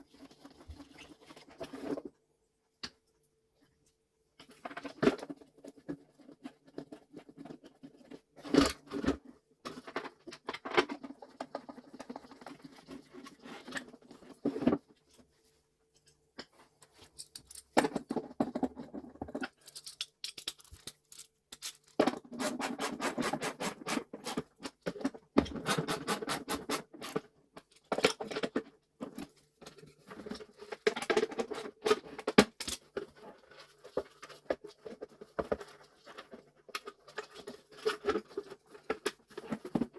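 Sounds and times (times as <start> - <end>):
plastic parts clicking and knocking: 4.4 - 14.9, 16.0 - 39.9.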